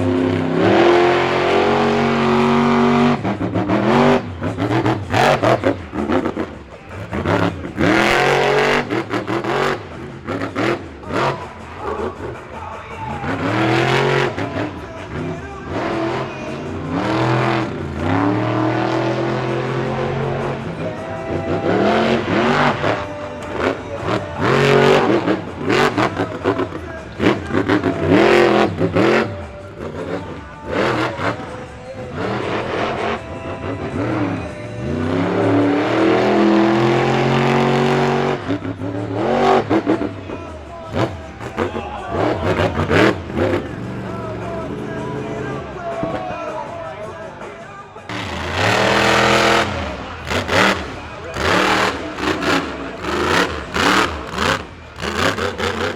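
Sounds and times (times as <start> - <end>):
truck engine revving hard: 0.0 - 55.9.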